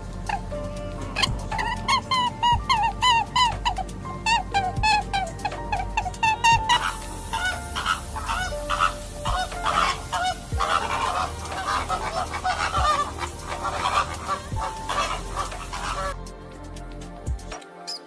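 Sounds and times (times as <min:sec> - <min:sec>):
many birds calling: 0:00.0 - 0:16.2.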